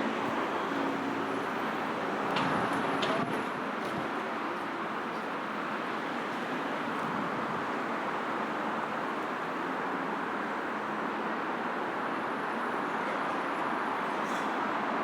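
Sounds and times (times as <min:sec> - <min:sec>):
road traffic roar: 0:00.0 - 0:15.0.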